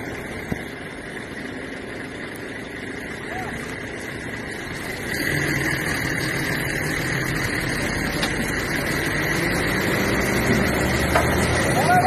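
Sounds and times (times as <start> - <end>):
truck diesel engine under load: 0.0 - 12.0.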